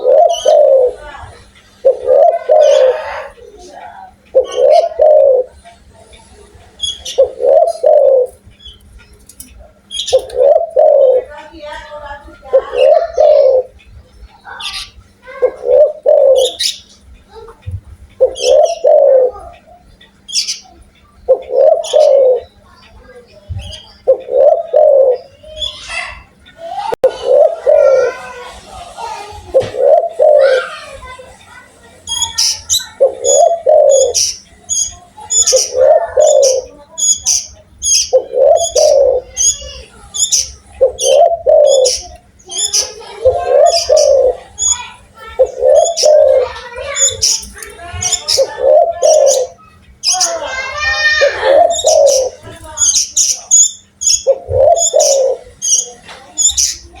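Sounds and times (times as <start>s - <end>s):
dove cooing: 0.0s - 8.6s, 9.5s - 13.8s, 14.4s - 57.0s
small bird chirping: 0.0s - 28.4s, 29.6s - 57.0s.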